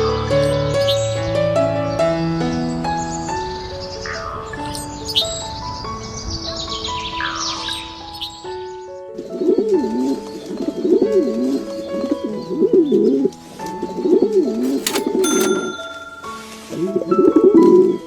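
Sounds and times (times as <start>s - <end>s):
background music sustained notes: 0.0s - 18.0s.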